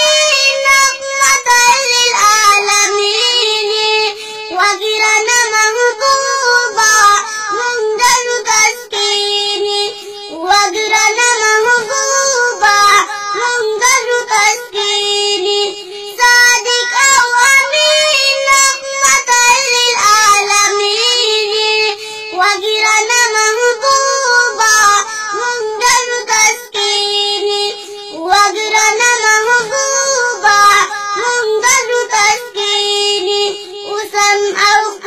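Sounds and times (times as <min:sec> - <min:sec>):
boy singing a religious chant: 0:00.0 - 0:35.0.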